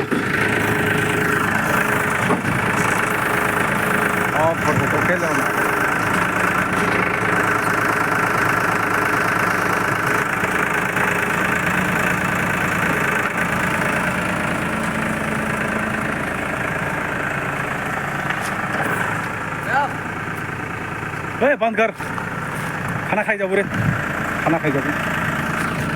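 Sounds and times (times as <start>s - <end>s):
diesel engine running steadily: 0.0s - 25.9s.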